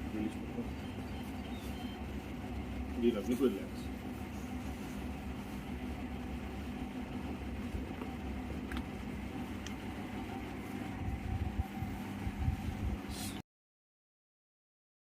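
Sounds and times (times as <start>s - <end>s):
machinery humming: 0.0s - 13.4s.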